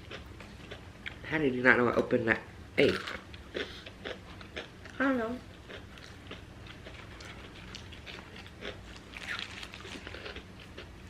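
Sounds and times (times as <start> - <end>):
chewing crunchy food: 0.0 - 1.2, 2.8 - 11.0.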